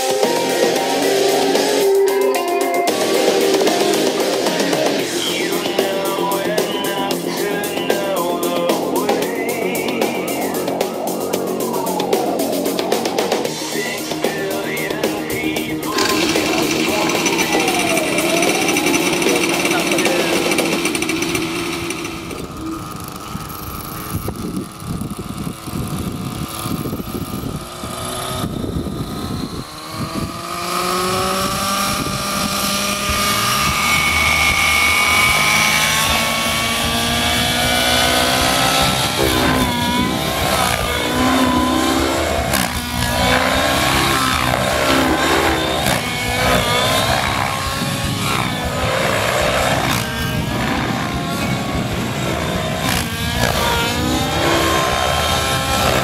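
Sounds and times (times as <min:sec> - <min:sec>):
helicopter rotor: 0:02.9 - 0:56.0
model helicopter engine whining: 0:02.9 - 0:56.0.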